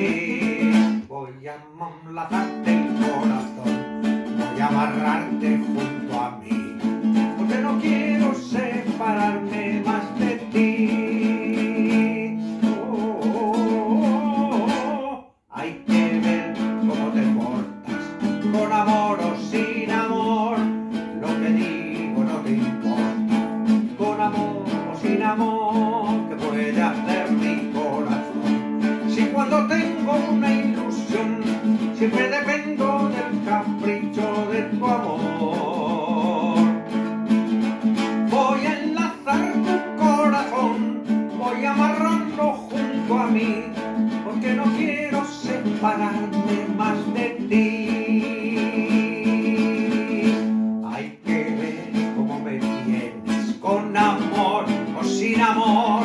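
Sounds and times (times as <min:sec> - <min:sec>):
classical guitar playing: 0:00.0 - 0:56.0
man singing with vibrato: 0:00.0 - 0:56.0.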